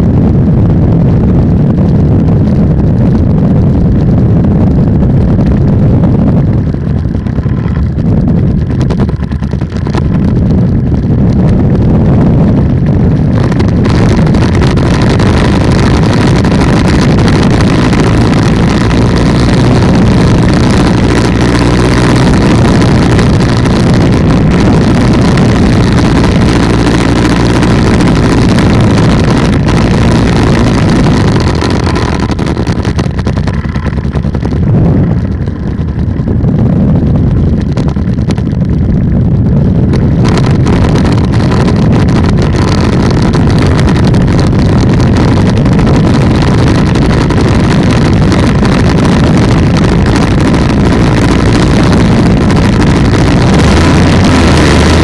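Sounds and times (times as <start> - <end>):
paramotor engine running: 0.0 - 55.0
rushing air: 0.0 - 55.0.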